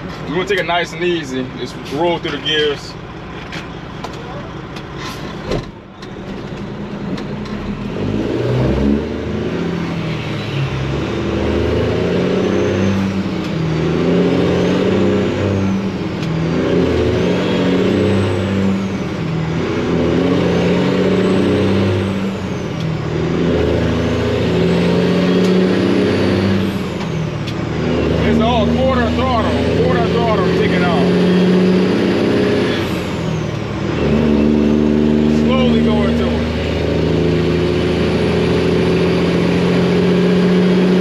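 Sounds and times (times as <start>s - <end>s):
diesel truck engine accelerating: 0.0s - 41.0s.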